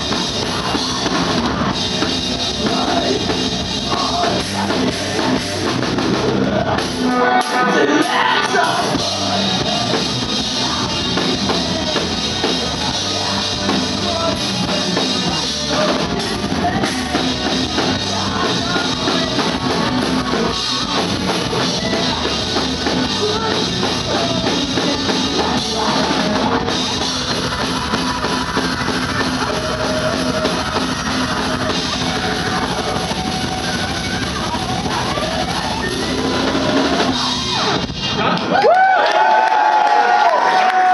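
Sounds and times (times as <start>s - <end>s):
live heavy metal band: 0.0s - 40.9s.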